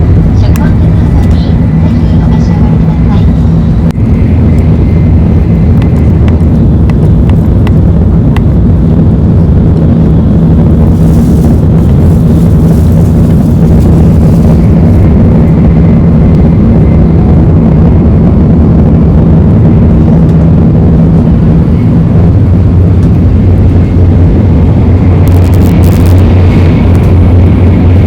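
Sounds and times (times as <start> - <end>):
train rumbling inside passenger car: 0.0 - 28.0.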